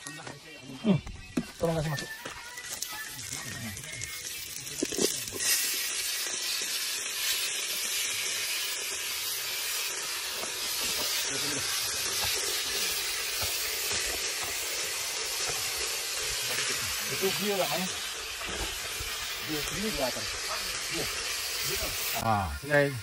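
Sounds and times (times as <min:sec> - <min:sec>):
meat sizzling in a pot: 0:01.5 - 0:23.0.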